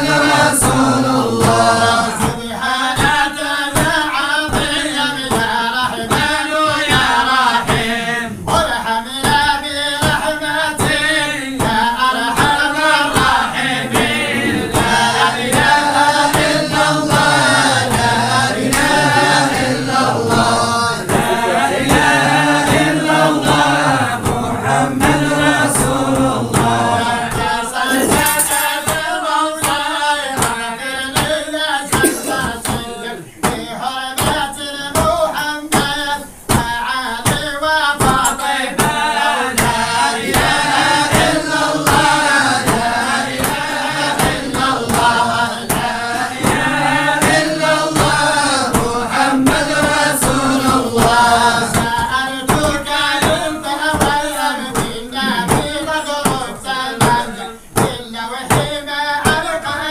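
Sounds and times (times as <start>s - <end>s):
hand percussion beat: 0.0s - 59.7s
group singing a chant: 0.0s - 59.9s.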